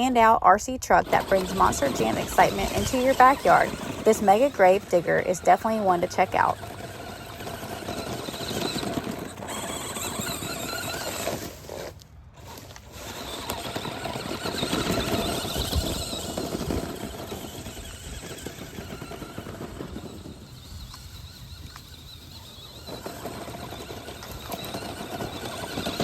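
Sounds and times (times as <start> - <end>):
rough rumbling noise: 0.0 - 26.0
electric motor whining: 0.9 - 26.0.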